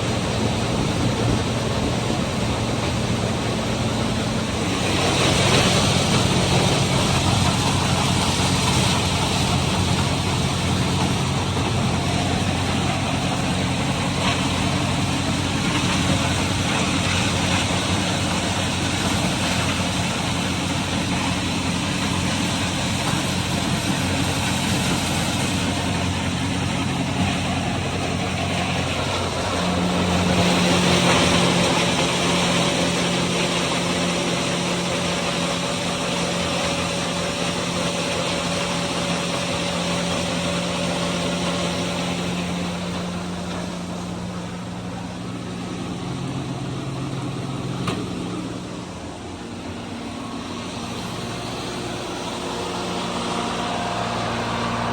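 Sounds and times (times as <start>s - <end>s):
farm machinery engines: 0.0s - 54.9s
feed mill grinding corn: 0.0s - 54.9s.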